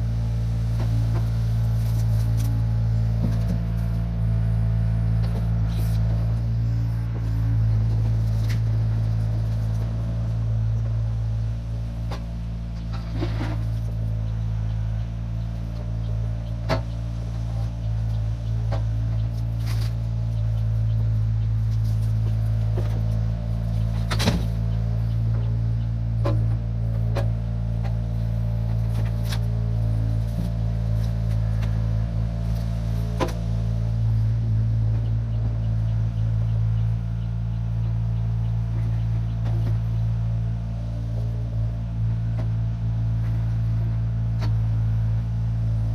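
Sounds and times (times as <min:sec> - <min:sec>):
truck engine droning: 0:00.0 - 0:45.9.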